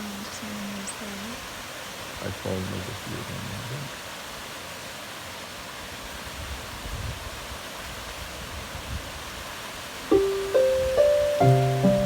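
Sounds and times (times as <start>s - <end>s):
outdoor rushing hiss: 0.0s - 12.0s.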